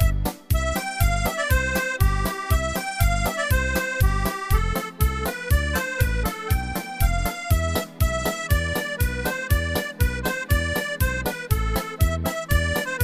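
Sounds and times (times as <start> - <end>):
background music with quick beat: 0.0 - 13.0.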